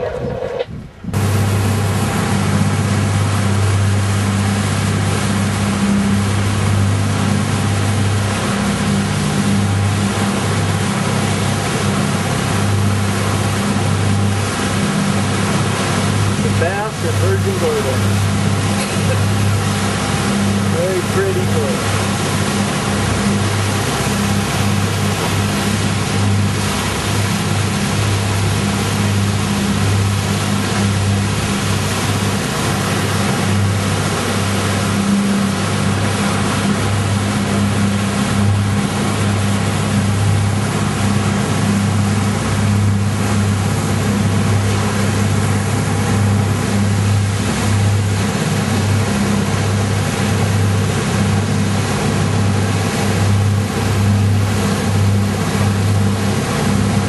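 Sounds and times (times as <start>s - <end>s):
boat engine droning: 0.0s - 57.0s
constant rushing noise: 0.0s - 57.0s.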